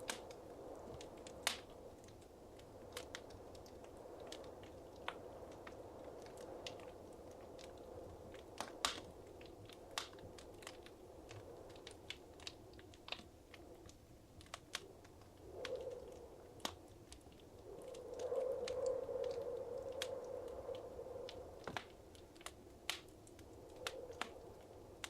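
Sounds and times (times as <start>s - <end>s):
low rush of flame: 0.0s - 25.0s
sharp pops and snaps: 0.0s - 25.0s
wood fire crackling: 0.0s - 25.0s.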